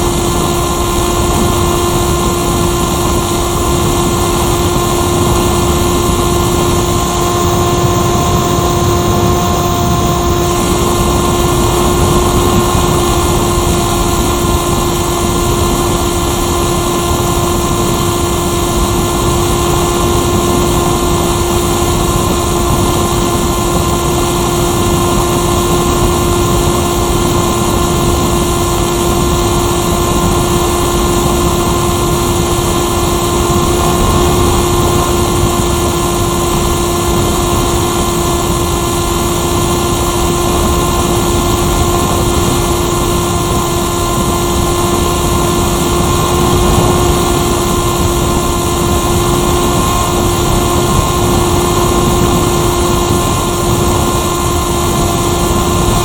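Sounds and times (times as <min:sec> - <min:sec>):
motor glider engine and propeller: 0:00.0 - 0:56.0
rushing air: 0:00.0 - 0:56.0.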